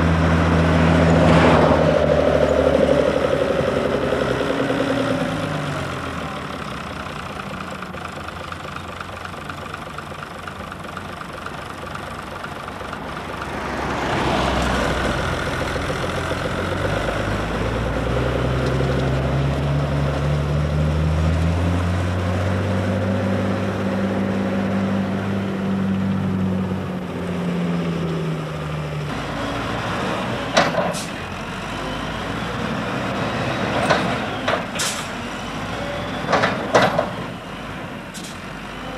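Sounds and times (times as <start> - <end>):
tractor engines running: 0.0 - 38.9.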